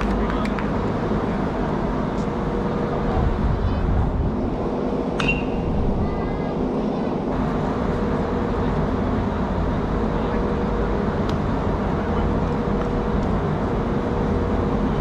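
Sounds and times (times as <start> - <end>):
faint hum: 0.0 - 15.0
low rumbling background noise: 0.0 - 15.0.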